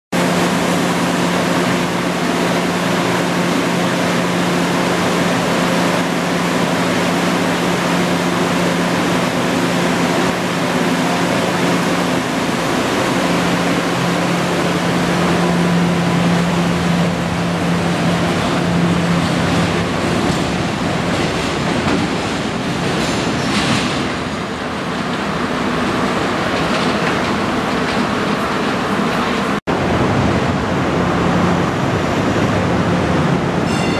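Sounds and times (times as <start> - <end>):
light-rail car running on rails: 0.2 - 33.9.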